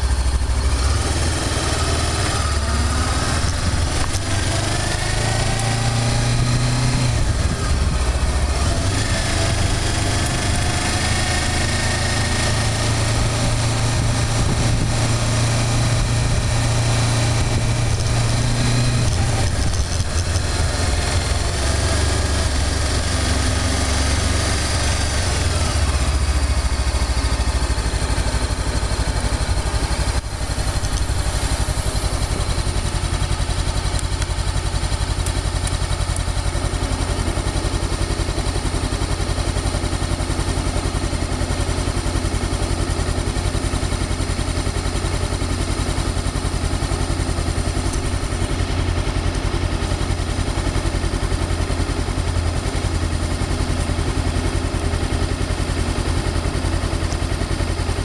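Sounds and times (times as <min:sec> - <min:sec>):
motorcycle engine throbbing: 0:00.0 - 0:58.0.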